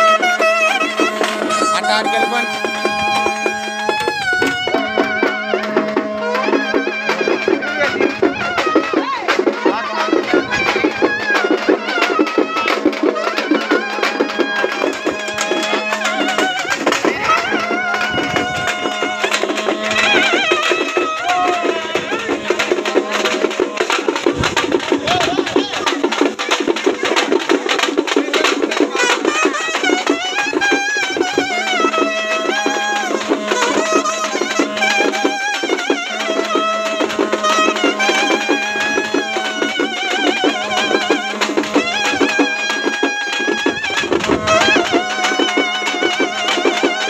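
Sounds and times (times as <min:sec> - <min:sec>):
fast continuous drumming: 0:00.0 - 0:47.0
wind instrument melody: 0:00.0 - 0:47.0.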